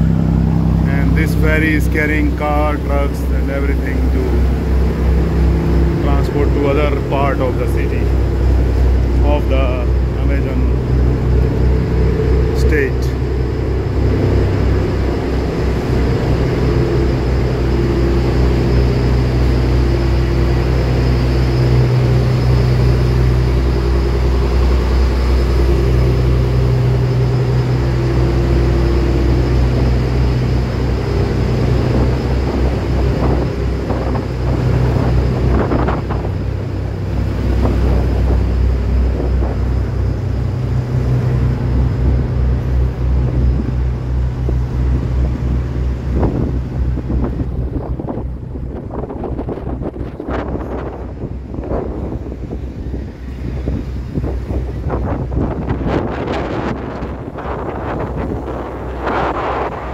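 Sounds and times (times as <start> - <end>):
ferry engines droning: 0.0 - 59.9.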